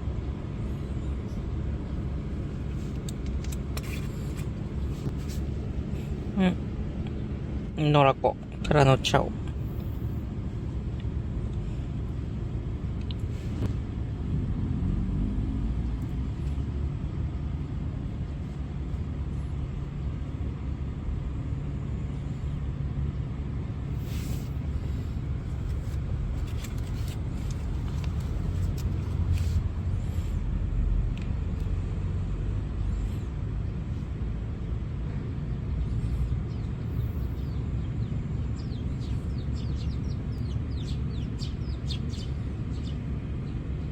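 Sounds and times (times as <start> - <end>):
low outdoor rumble: 0.0 - 43.9.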